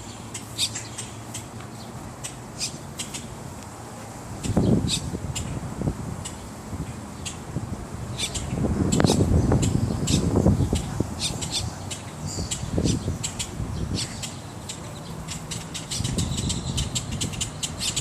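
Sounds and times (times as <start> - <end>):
birds calling: 0.0 - 7.5, 8.1 - 18.0.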